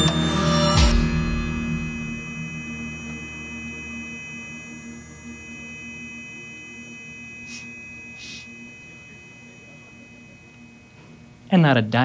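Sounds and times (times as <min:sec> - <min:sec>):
electronic drone: 0:00.0 - 0:11.5.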